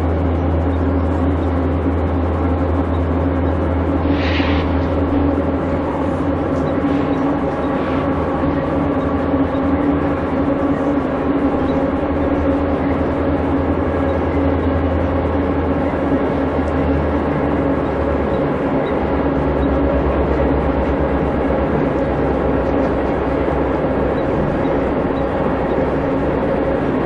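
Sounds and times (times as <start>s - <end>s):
diesel locomotive engine drone: 0.0s - 27.0s.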